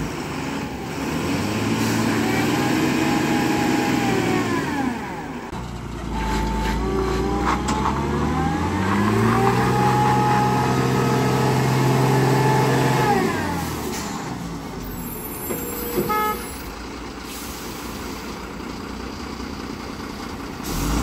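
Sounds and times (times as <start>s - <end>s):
lorry diesel engine under load: 0.0s - 21.0s.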